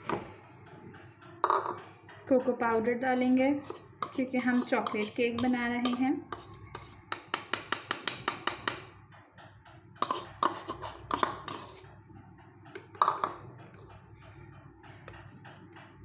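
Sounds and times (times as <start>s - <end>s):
utensil tapping on bowl: 0.8s - 11.9s, 12.6s - 15.9s.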